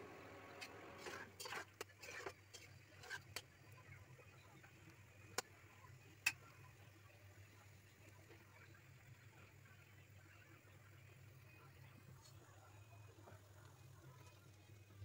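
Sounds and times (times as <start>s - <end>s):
curry simmering with pops: 0.6s - 15.0s.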